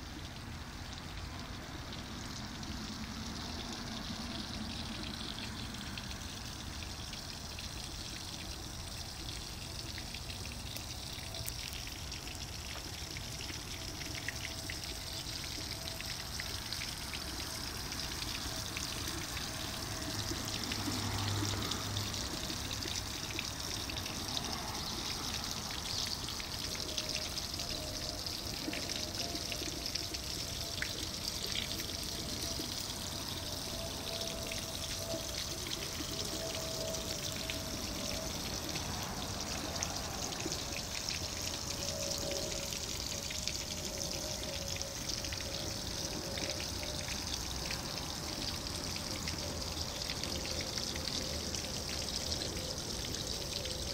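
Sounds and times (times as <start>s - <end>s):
water fountain pouring and trickling: 0.0s - 53.9s.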